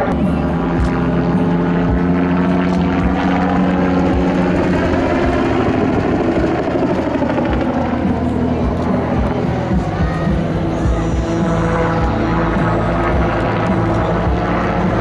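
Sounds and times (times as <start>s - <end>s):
helicopter engine tone: 0.0s - 15.0s
helicopter rotor beating: 0.0s - 15.0s.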